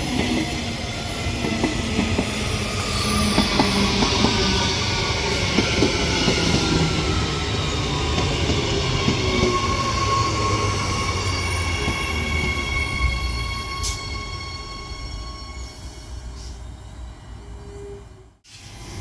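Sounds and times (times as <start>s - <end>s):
train high whining tones: 0.0s - 19.0s.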